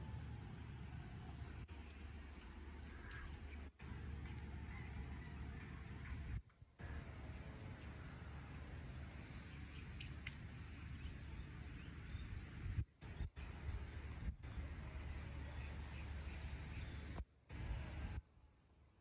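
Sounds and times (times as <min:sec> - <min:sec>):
small birds chirping: 0:00.6 - 0:18.2.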